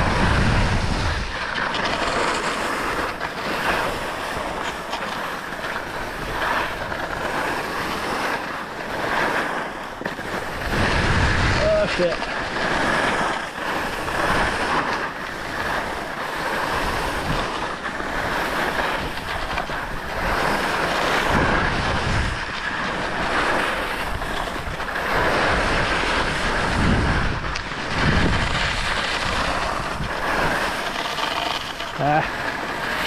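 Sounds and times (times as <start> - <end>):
skis carving on packed snow: 0.0 - 33.0
wind rumbling on microphone: 0.0 - 33.0.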